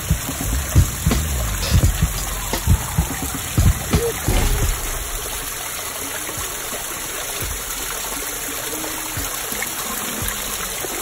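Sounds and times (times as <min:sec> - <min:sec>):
waterfall spilling over rocks: 0:00.0 - 0:11.0.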